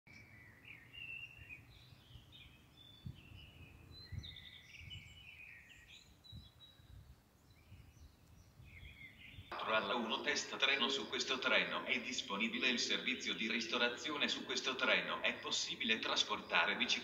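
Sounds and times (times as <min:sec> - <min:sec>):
small birds singing: 0:00.1 - 0:17.0.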